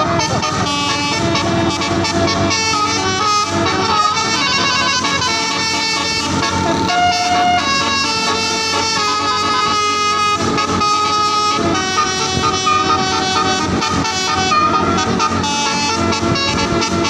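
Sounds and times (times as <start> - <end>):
multi-tone air horn playing tune: 0.0 - 17.0.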